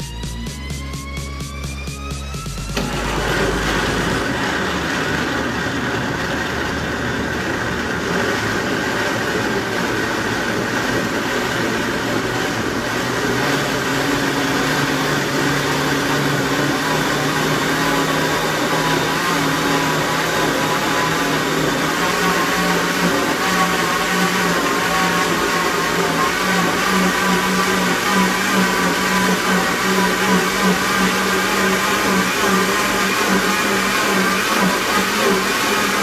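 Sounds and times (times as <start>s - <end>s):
blender running: 0.0s - 36.0s.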